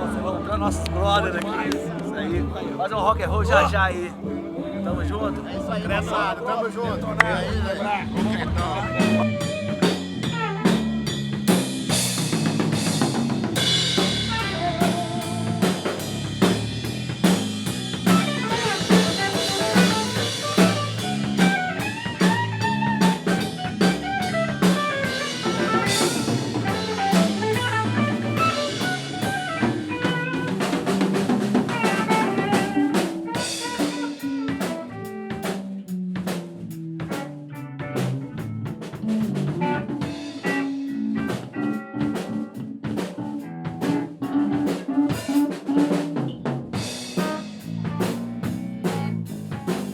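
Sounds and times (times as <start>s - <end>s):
punk rock band playing: 0.0s - 49.9s
drum kit hits: 8.5s - 35.6s, 36.2s - 49.9s.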